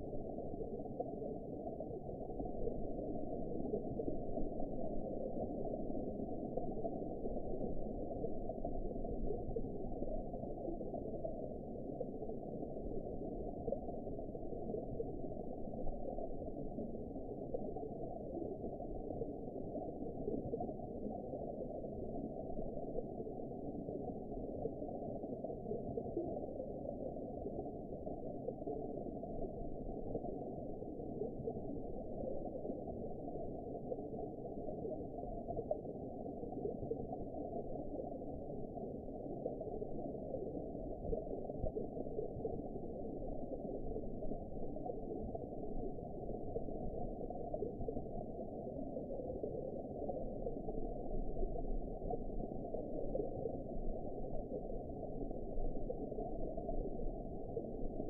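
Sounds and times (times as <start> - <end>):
muffled underwater rush: 0.0 - 58.0.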